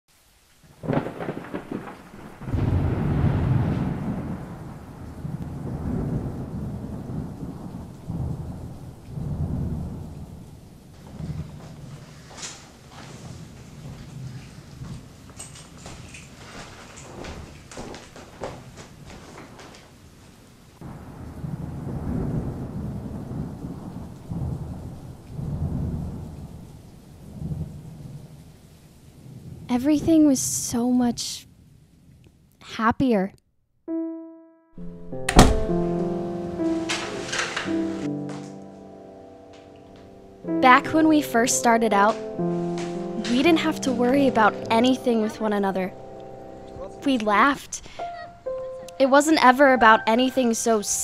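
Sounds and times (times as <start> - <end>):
light rain hiss: 0.1 - 33.2, 34.8 - 51.0
rolling thunder: 0.7 - 16.2, 20.8 - 30.3, 34.8 - 51.0.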